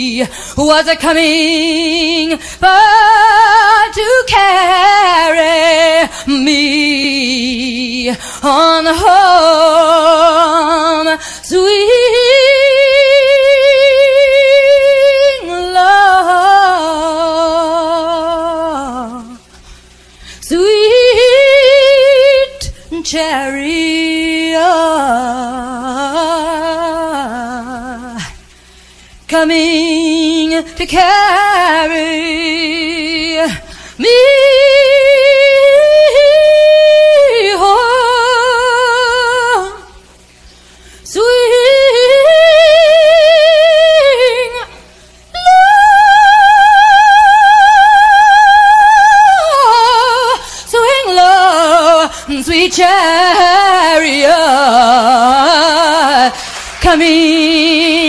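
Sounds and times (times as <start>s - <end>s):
woman singing a cappella: 0.0s - 58.0s.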